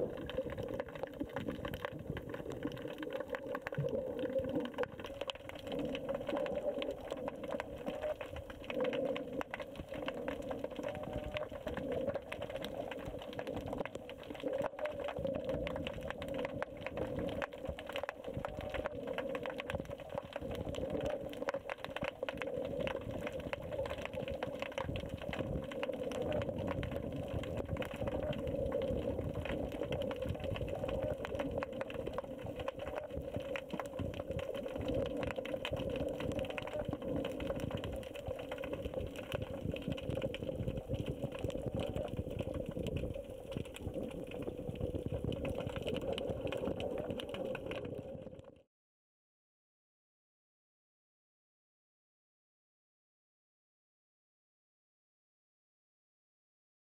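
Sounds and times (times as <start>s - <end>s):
muffled underwater hum: 0.0s - 48.4s
dense crackle of tiny clicks: 0.0s - 48.7s.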